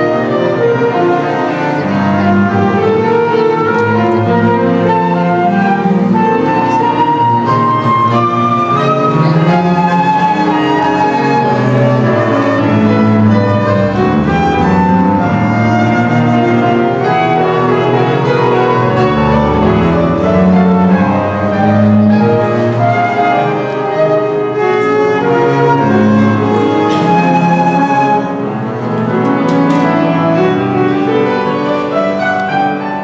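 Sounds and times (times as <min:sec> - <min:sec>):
flute playing slow melody: 0:00.0 - 0:29.1
sustained accompaniment notes: 0:00.0 - 0:33.0.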